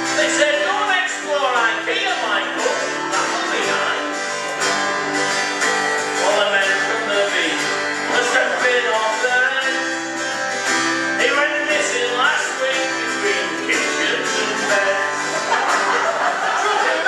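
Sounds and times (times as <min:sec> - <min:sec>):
country music with acoustic guitar: 0:00.0 - 0:17.0.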